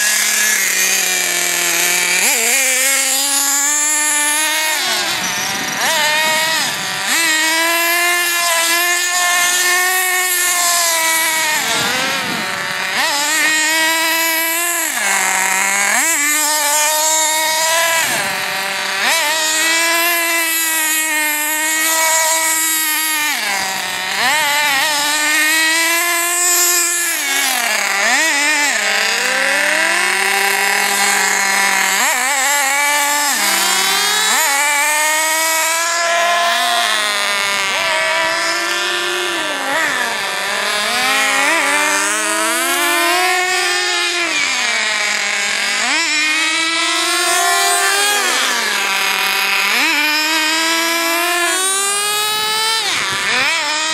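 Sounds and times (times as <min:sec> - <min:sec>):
small engines whining and revving: 0:00.0 - 0:53.9.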